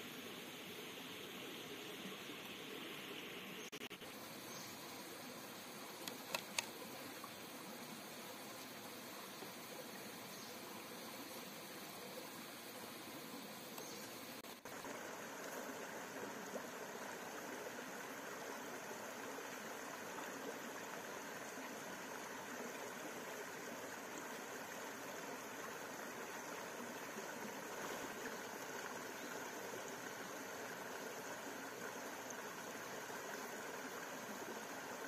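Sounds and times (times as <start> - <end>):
stream flowing over rocks: 0.0 - 35.0.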